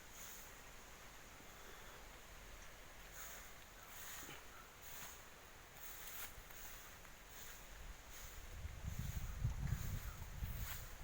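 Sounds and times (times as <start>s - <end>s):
soft steady hiss: 0.0s - 11.0s.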